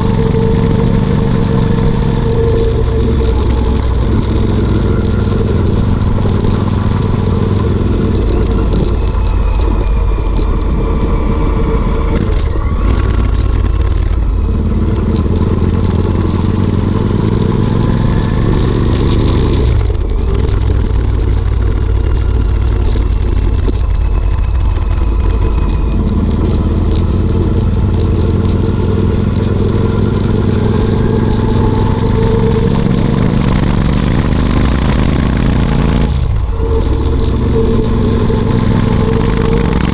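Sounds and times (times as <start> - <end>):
motorcycle exhaust rumble: 0.0 - 39.9.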